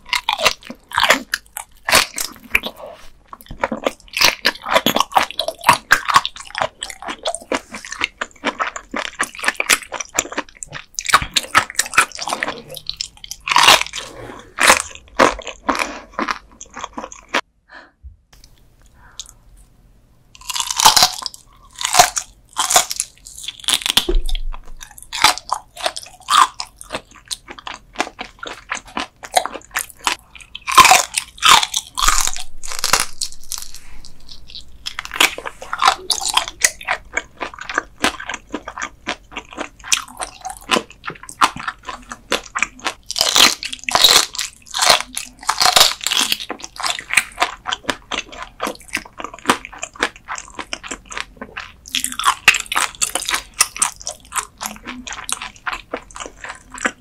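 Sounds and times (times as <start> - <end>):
chewing and crunching raw fish: 0.0 - 17.5, 20.4 - 57.0.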